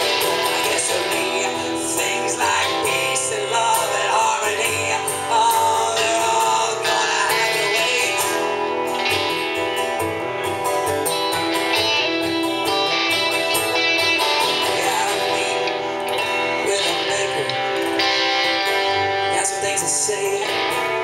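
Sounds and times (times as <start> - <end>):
acoustic guitar strumming: 0.0 - 21.0
electric guitar playing: 0.0 - 21.0.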